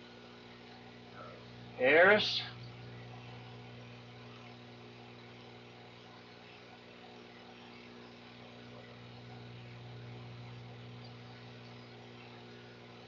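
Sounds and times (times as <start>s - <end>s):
constant hiss: 0.0s - 13.0s
faint electrical hum: 0.0s - 13.0s.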